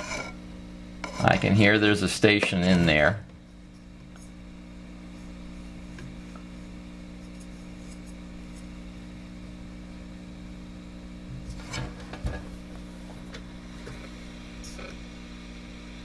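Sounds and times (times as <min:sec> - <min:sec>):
speaker hum with faint hiss: 0:00.0 - 0:16.0.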